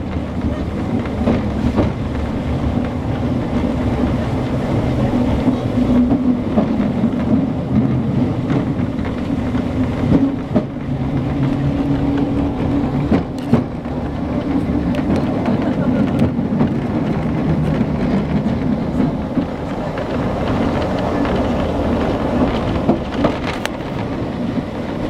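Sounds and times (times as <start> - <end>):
tram engine drone: 0.0 - 25.0
wheels clicking over rails: 0.0 - 25.0.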